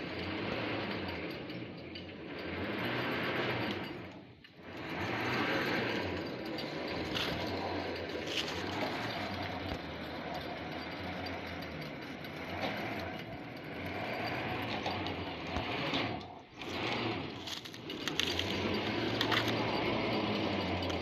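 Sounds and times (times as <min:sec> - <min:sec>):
drilling rig running: 0:00.0 - 0:21.0.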